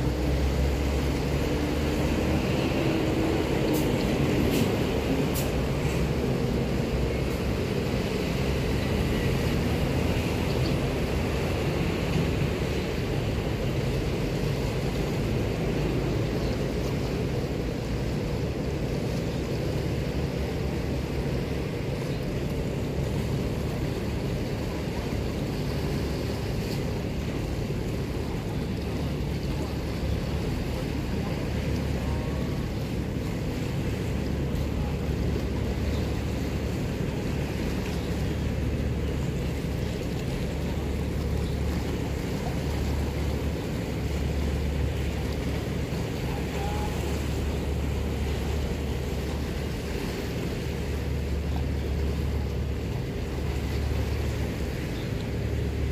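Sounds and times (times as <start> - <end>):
waves splashing on boulders: 0.0 - 55.9.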